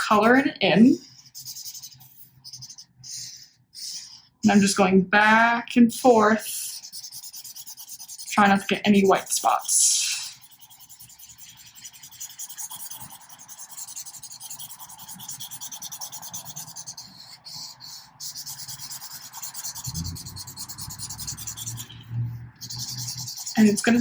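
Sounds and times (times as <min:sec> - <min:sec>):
marker scribbling on paper: 0:00.0 - 0:24.0.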